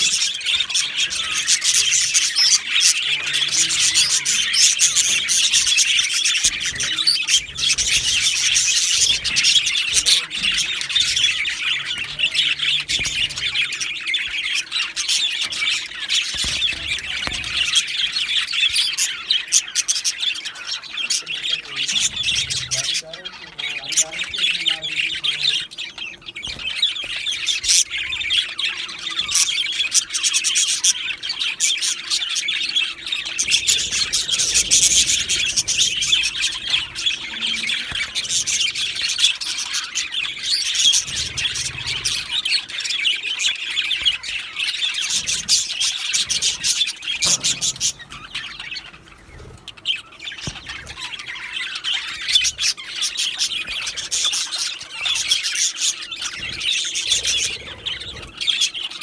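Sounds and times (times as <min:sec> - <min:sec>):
budgerigars chirping and chattering: 0:00.0 - 0:59.0.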